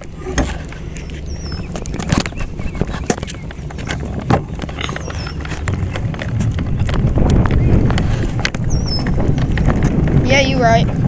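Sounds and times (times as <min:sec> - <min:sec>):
wind and tyre rumble: 0:00.0 - 0:11.0.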